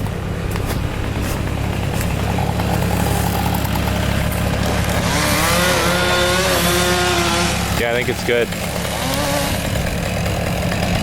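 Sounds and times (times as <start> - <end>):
chainsaw revving: 0.0 - 11.0
machinery engine idling: 0.0 - 11.0.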